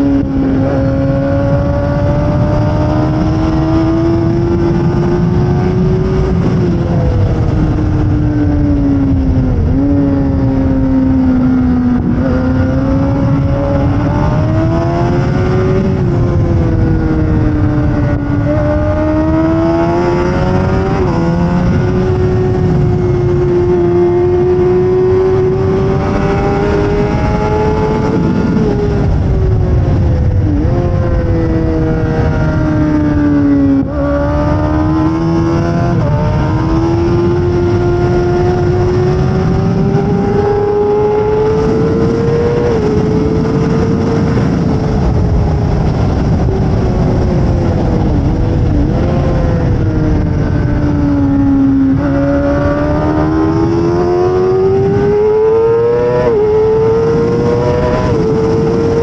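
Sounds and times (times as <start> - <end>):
motorcycle engine at high revs: 0.0 - 59.0
wind rushing: 0.0 - 59.0.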